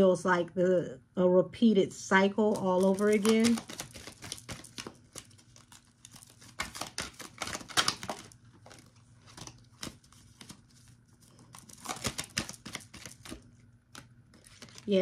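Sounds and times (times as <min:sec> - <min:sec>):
cards rustling and tapping: 0:02.5 - 0:15.0.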